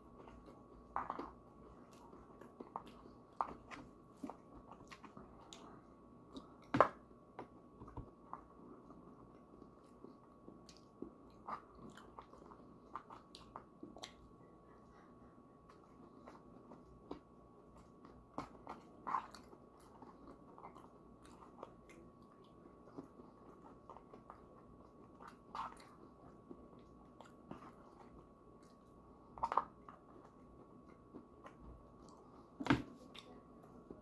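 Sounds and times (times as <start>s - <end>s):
chewing pastry: 0.0s - 34.0s.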